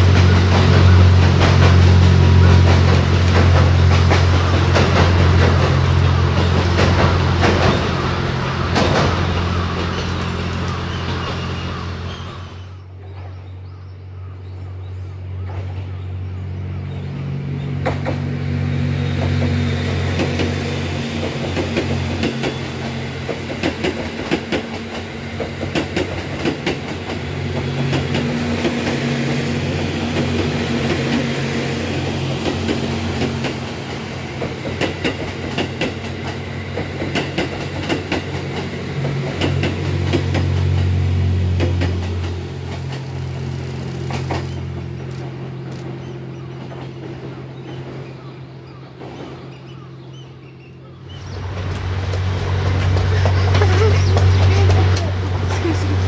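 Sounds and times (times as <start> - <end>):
train wheels clicking over rail joints: 0.0 - 13.4, 17.5 - 56.0
low diesel engine drone: 0.0 - 56.0.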